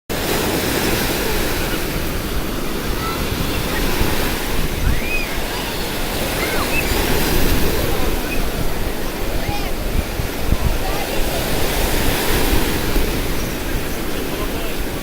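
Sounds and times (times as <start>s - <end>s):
sea surf washing ashore: 0.1s - 15.0s.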